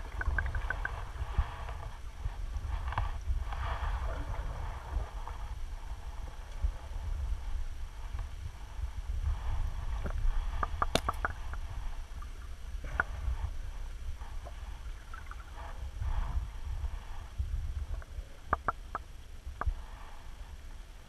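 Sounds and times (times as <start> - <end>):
underwater rumble of moving water: 0.0 - 21.0.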